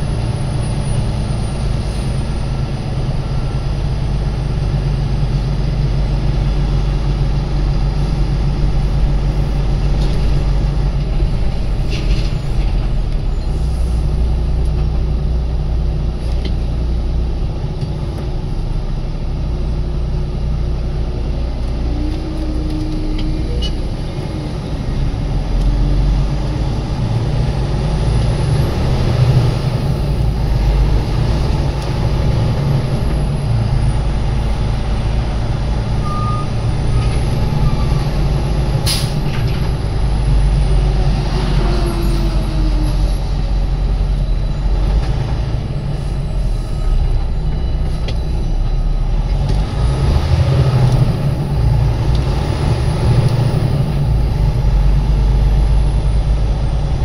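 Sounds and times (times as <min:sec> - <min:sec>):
truck engine and road noise: 0:00.0 - 0:57.0.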